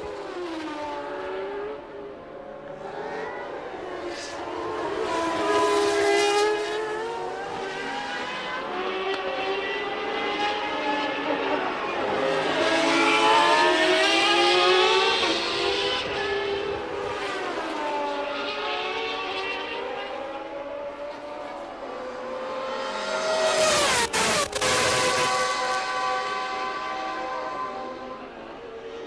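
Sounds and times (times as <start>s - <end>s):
racing car engine at high revs: 0.0s - 29.0s.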